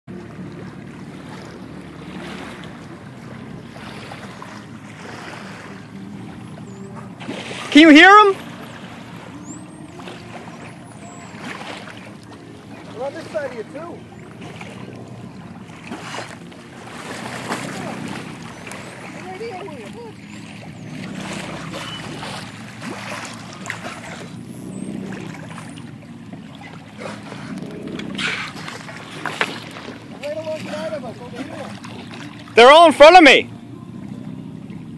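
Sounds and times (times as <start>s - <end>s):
low engine hum: 0.0s - 34.9s
water washing along boat hull: 0.0s - 34.9s
faint high whistling glides: 1.5s - 32.1s.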